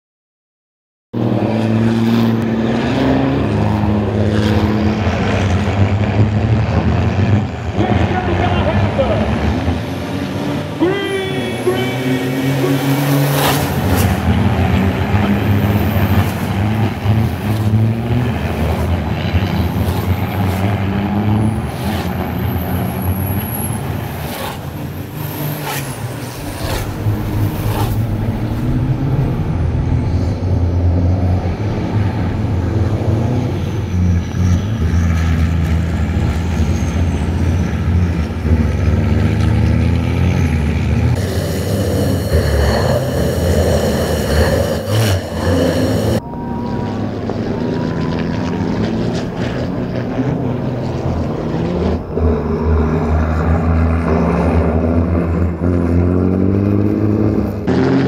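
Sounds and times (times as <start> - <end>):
racing truck diesel engines: 1.2 - 58.0.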